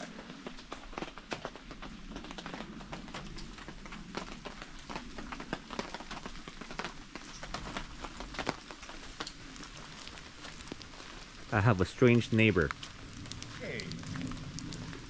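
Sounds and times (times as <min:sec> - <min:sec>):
raindrops tapping on fabric canopy: 0:00.0 - 0:15.0
rainfall hiss: 0:00.0 - 0:15.0.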